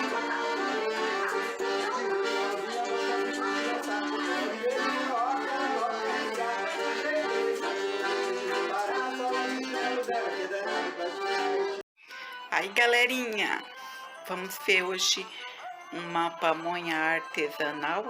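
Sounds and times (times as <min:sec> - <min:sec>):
accordion playing a traditional tune: 0:00.0 - 0:18.0.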